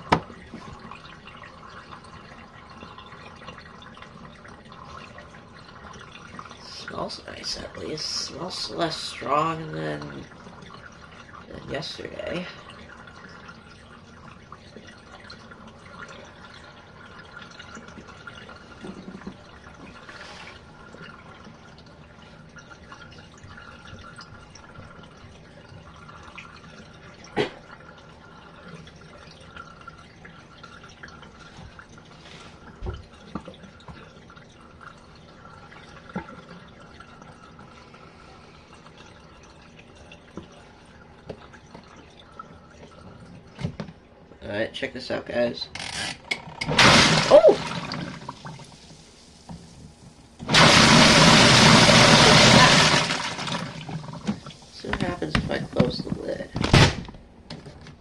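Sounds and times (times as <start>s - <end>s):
water running in washing machine tub: 0.0s - 58.0s.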